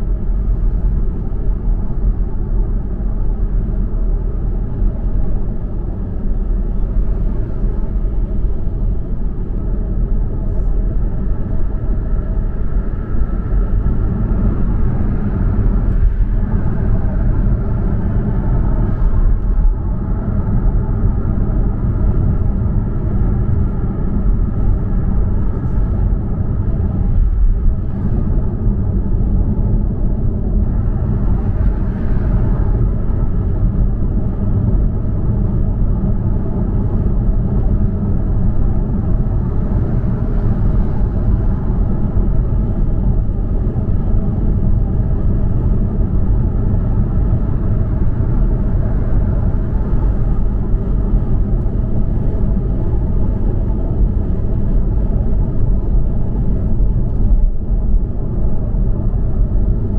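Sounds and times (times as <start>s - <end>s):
tyre and engine rumble in car: 0.0s - 59.9s.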